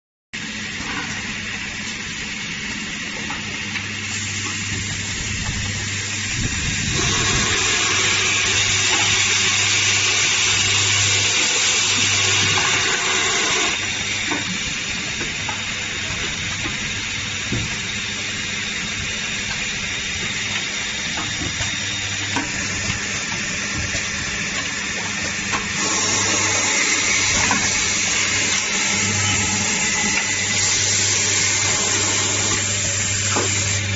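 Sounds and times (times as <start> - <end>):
low machine hum: 0.4 - 33.9
machine hissing: 3.8 - 33.9.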